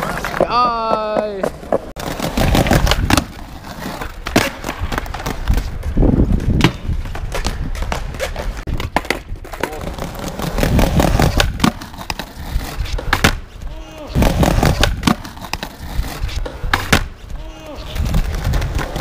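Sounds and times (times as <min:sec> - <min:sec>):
skateboard wheels rolling on paving: 0:00.0 - 0:19.0
skateboard pops and landings: 0:00.1 - 0:13.5, 0:14.2 - 0:17.1.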